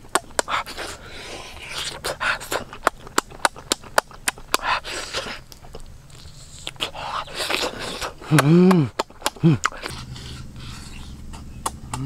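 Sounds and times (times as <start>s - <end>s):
breathy mouth and nose noise: 0.0s - 12.0s
wet lip-smacking and chewing: 0.0s - 12.0s.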